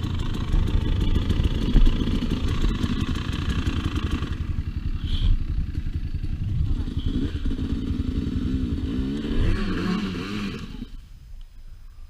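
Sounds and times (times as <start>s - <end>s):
two-stroke engine rumble: 0.0s - 11.4s.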